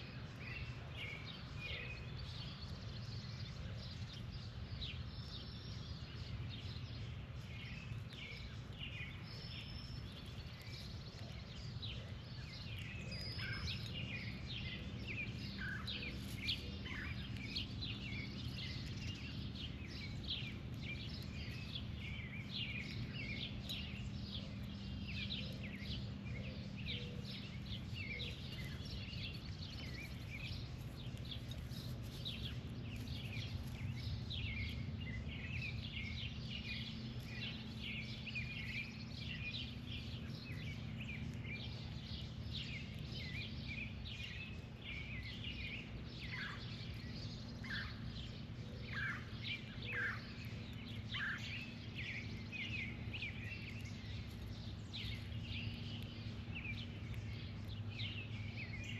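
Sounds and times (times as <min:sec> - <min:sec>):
birds chirping and calling: 0:00.0 - 0:58.9
falling bird calls: 0:00.0 - 0:58.9
steady low hum: 0:00.0 - 0:58.9.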